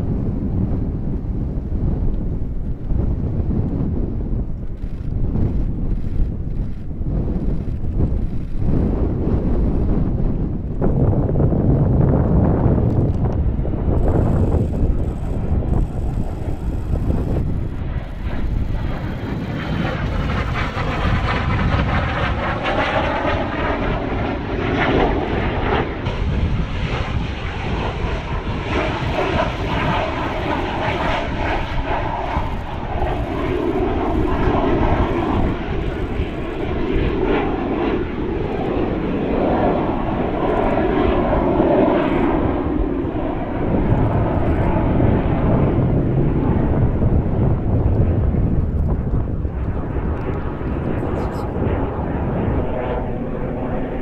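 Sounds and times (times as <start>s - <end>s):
jets flying over roaring: 0.0s - 54.0s.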